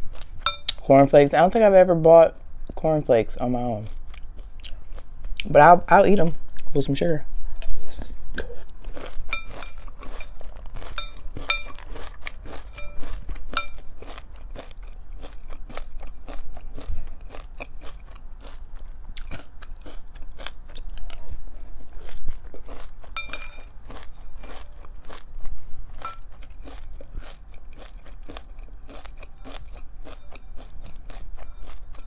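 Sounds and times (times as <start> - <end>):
person chewing crunchy cereal: 0.0 - 0.8, 3.8 - 5.5, 7.7 - 32.0.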